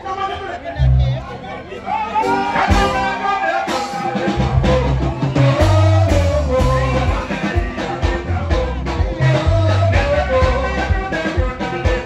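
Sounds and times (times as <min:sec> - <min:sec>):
keyboard playing: 0:02.0 - 0:12.0
man singing into a microphone: 0:02.0 - 0:12.0
electric bass guitar: 0:02.2 - 0:12.0.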